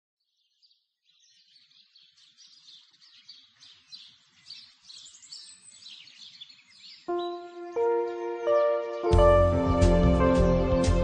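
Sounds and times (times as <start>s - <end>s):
birds chirping faintly: 0.2s - 11.0s.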